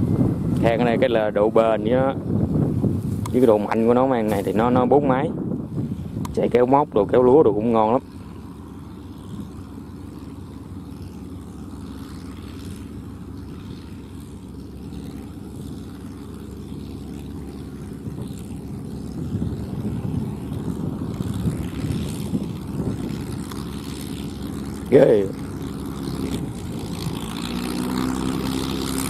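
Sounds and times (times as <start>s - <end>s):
tractor diesel engine running: 5.7s - 29.0s.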